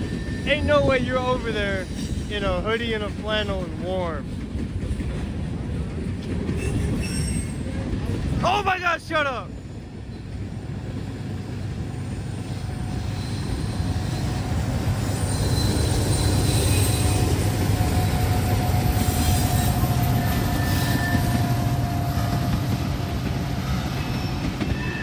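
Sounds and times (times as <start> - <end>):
diesel locomotive rumble: 0.0 - 25.0.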